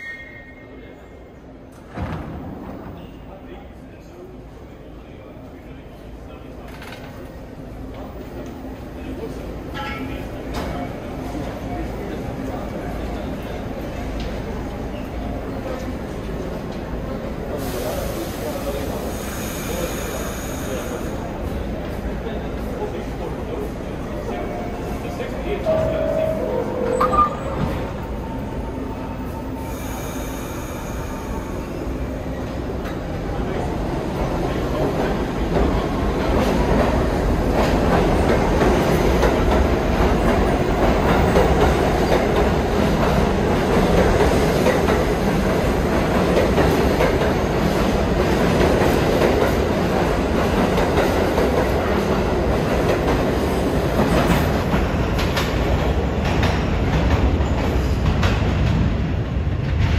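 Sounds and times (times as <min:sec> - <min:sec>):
subway train wheels clattering: 0:00.0 - 0:59.9.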